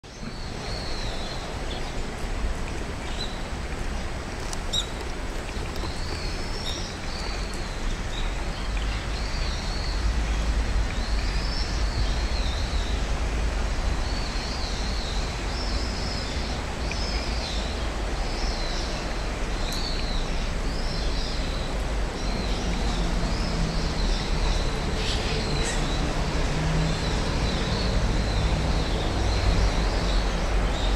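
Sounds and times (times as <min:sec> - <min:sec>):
flowing river water: 0:00.0 - 0:30.9
road traffic rumble: 0:00.0 - 0:30.9.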